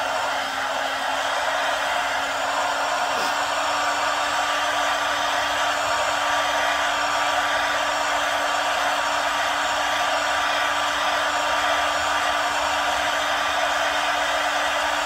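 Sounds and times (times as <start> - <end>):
hot-air blower running: 0.0 - 15.0.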